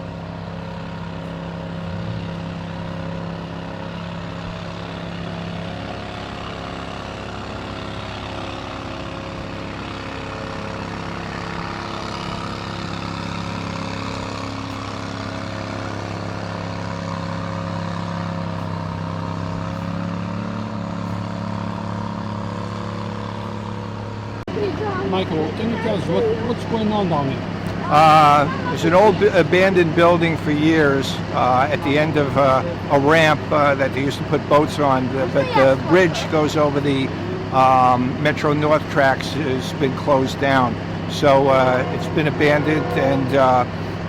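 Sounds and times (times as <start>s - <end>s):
large vehicle engine running: 0.0s - 44.0s.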